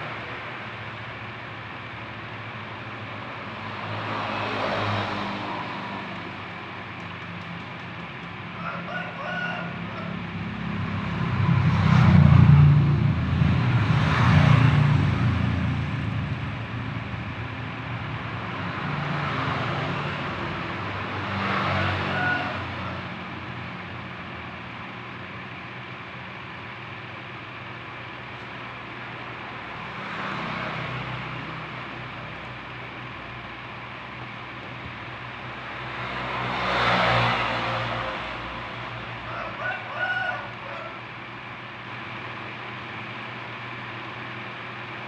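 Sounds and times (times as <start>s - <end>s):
road vehicles passing by: 0.0s - 45.0s.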